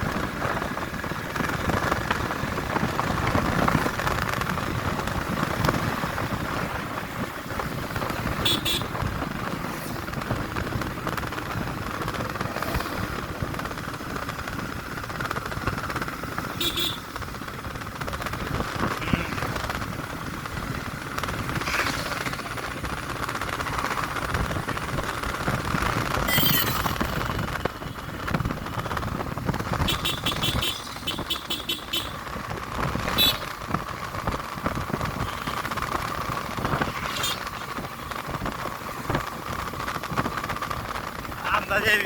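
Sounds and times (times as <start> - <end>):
road vehicle hum and rumble: 0.0 - 42.0.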